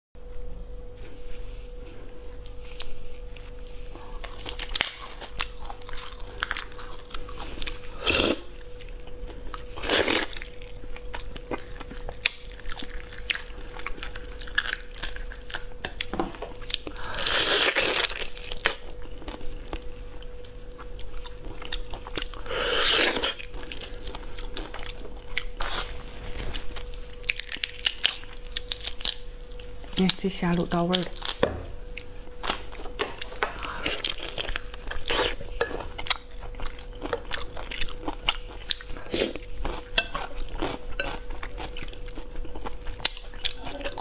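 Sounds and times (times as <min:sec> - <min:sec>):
faint steady hum: 0:00.2 - 0:44.0.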